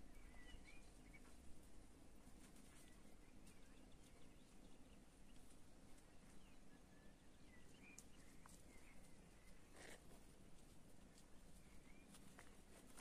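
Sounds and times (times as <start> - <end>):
faint bird chirps: 0.0 - 1.5, 2.6 - 10.2, 11.3 - 13.0
faint outdoor ambience: 0.0 - 13.0.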